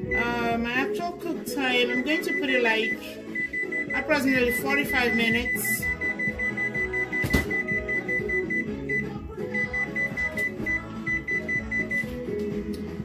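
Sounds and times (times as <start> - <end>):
high-pitched oven beeps: 0.0 - 0.4, 1.7 - 12.1
background music: 0.0 - 13.0.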